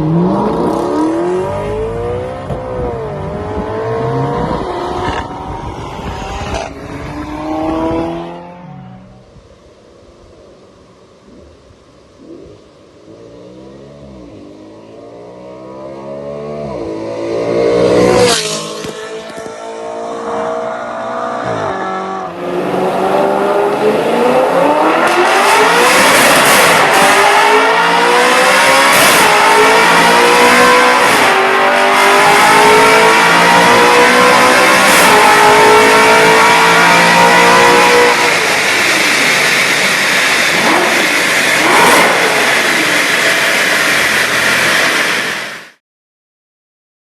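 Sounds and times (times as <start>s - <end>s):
car engine accelerating hard: 0.0s - 9.3s, 13.0s - 45.8s.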